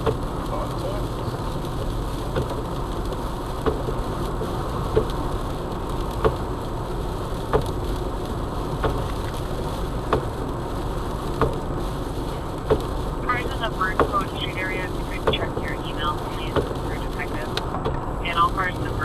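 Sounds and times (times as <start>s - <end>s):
road and engine noise in car: 0.0s - 19.0s.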